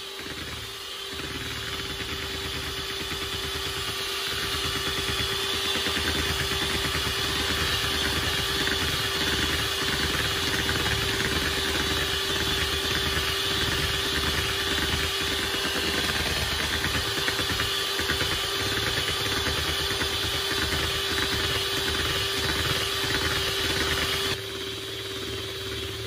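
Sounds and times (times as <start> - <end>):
electric hand mixer running: 0.0 - 26.0.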